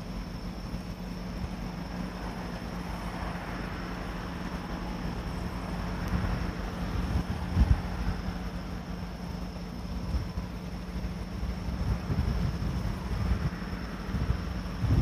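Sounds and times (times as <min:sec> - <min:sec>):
distant traffic and railway rumble: 0:00.0 - 0:15.0
low steady hum: 0:00.0 - 0:15.0.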